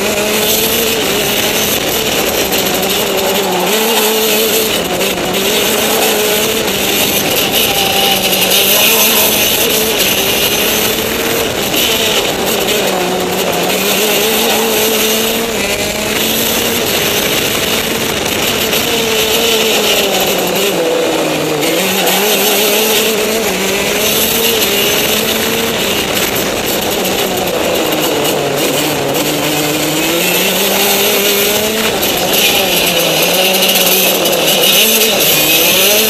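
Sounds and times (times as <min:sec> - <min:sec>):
kart engine revving: 0:00.0 - 0:36.0.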